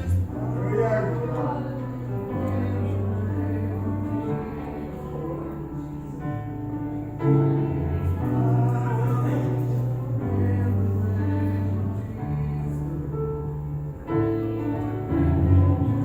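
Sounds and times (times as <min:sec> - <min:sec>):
keyboard chords and bass: 0:00.0 - 0:16.0
voices singing: 0:00.0 - 0:16.0.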